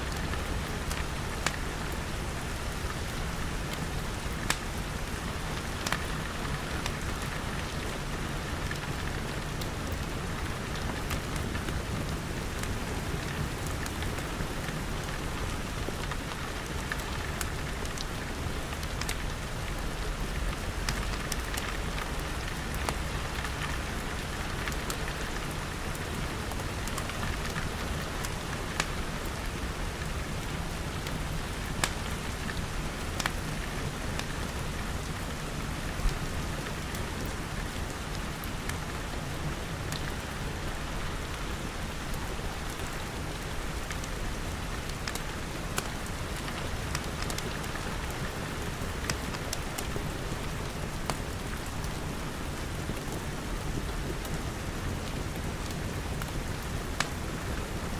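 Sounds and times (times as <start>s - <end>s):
rain pattering on glass: 0.1s - 57.9s
wood fire crackling: 0.1s - 57.9s.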